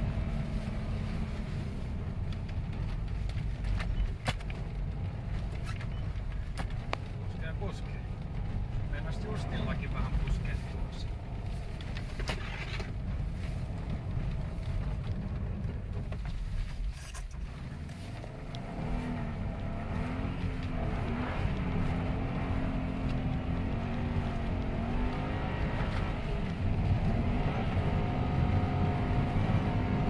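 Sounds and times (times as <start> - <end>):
tyre and road rumble on snow: 0.0 - 30.0
car engine revving: 4.5 - 16.2, 17.1 - 30.0.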